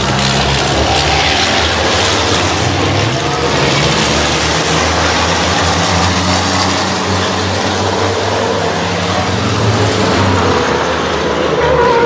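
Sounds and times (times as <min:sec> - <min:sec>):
broad rush of noise: 0:00.0 - 0:12.0
truck engines running hard: 0:00.0 - 0:12.0.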